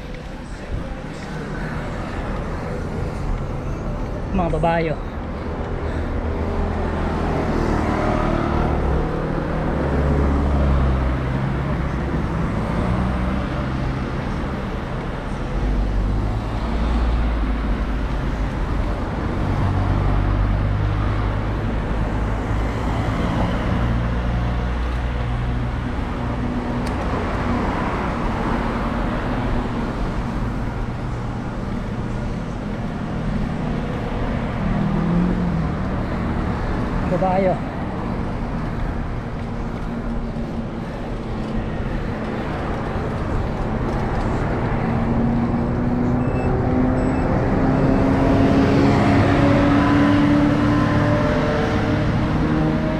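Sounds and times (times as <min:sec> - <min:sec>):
cars passing: 0:00.0 - 0:52.9
road noise rumble: 0:00.0 - 0:52.9.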